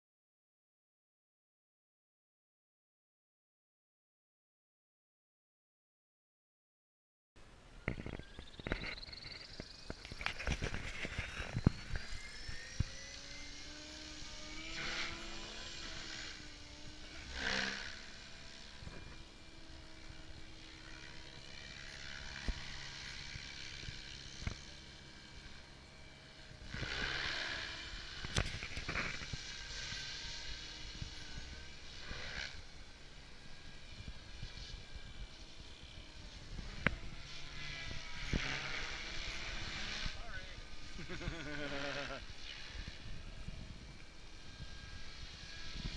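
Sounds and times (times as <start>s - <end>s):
model helicopter motor whine: 7.7s - 45.9s.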